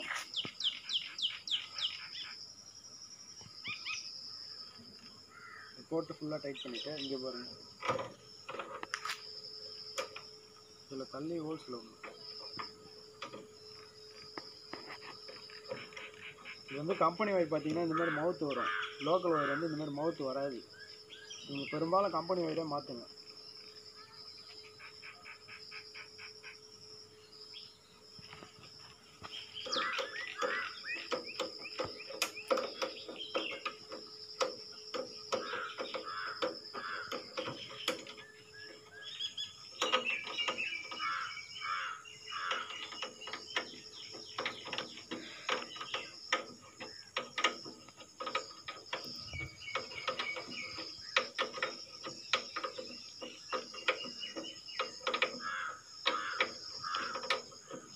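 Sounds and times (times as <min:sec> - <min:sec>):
birds chirping: 0:00.0 - 0:57.9
high insect drone: 0:00.0 - 0:57.9.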